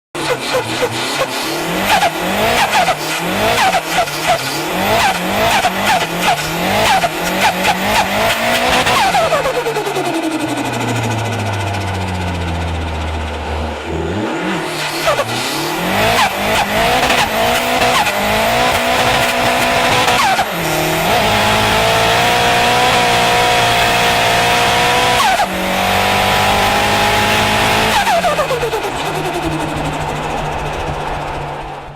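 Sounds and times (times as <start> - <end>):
car engine revving: 0.1 - 31.9.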